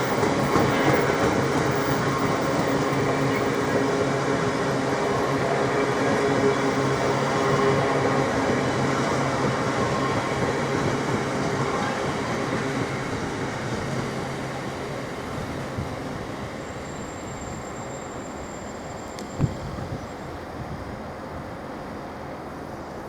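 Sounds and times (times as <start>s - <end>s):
diesel locomotive engine hum: 0.0s - 23.0s
train wheels rolling on rails: 0.0s - 23.0s.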